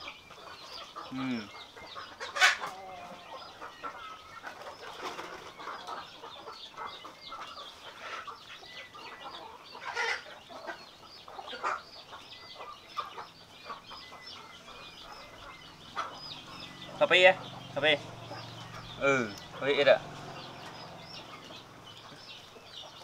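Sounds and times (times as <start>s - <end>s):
birds chirping: 0.0s - 23.0s
chickens clucking: 0.0s - 23.0s.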